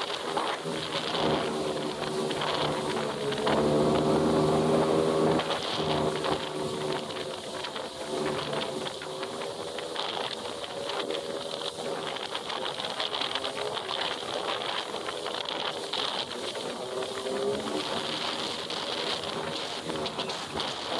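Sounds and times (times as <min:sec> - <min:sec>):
jet ski engine running: 0:00.0 - 0:20.9
water spray hissing: 0:00.0 - 0:20.9.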